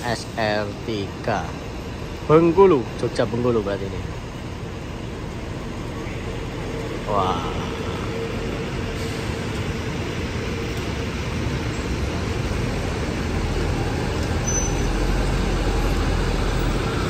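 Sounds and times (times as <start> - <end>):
bus engine rumble: 0.0 - 17.0
road traffic noise: 0.0 - 17.0.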